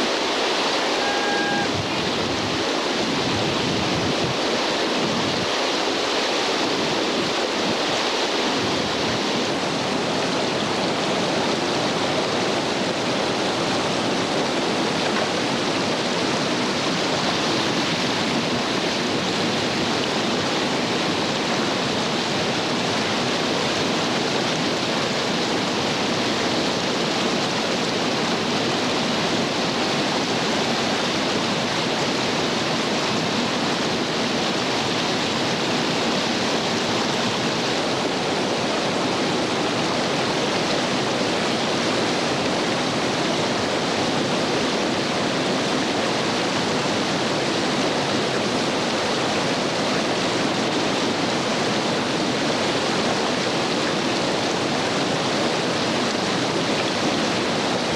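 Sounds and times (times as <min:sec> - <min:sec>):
whitewater rushing: 0:00.0 - 0:57.9.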